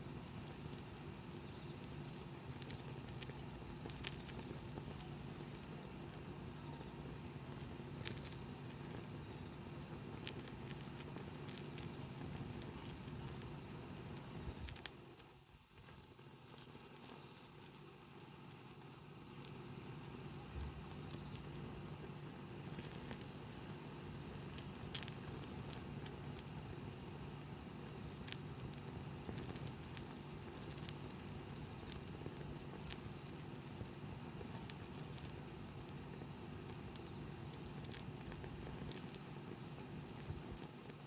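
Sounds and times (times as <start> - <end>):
campfire crackling: 0.0 - 41.0.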